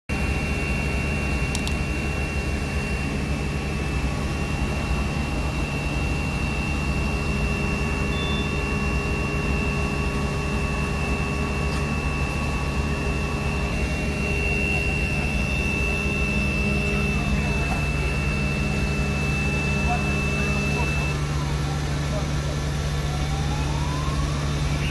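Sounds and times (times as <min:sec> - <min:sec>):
thin high whine: 0:00.1 - 0:22.3
fire engine pump drone: 0:00.1 - 0:24.9.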